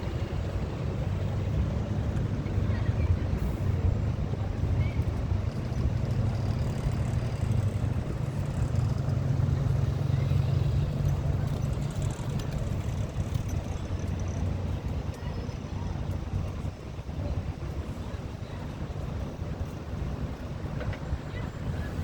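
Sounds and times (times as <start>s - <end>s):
bus engine humming: 0.0s - 22.0s.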